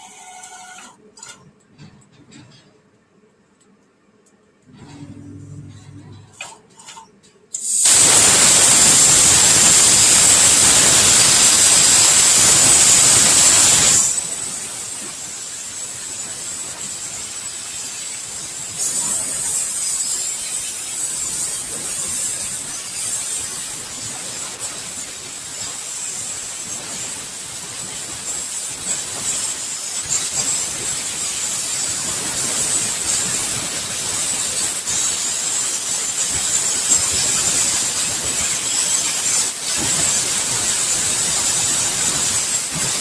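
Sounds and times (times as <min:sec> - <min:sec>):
plasma torch hiss: 0:07.6 - 0:43.0.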